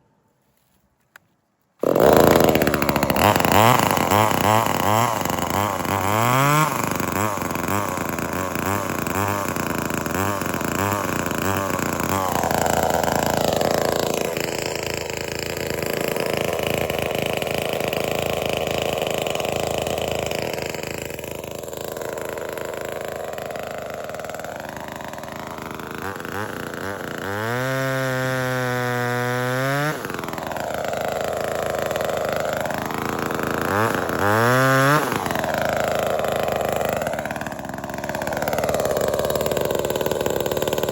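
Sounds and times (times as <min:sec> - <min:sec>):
chainsaw engine revving: 0:01.8 - 0:40.9.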